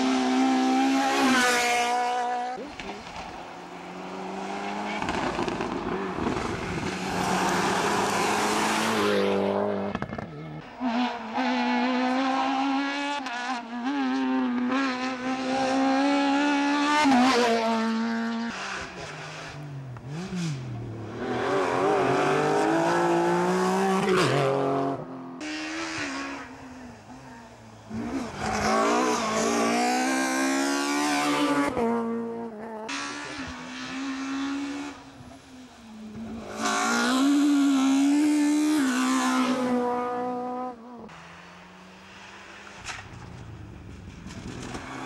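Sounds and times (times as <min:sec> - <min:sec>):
rally cars passing at full throttle: 0:00.0 - 0:45.0.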